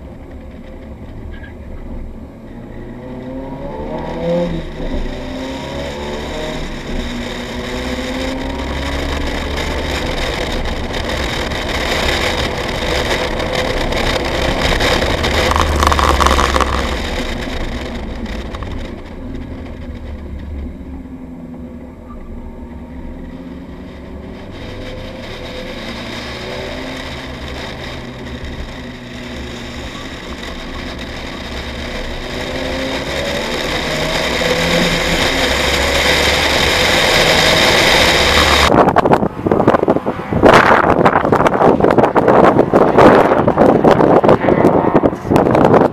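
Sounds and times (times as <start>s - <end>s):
car engine from inside cabin: 0.0s - 45.9s.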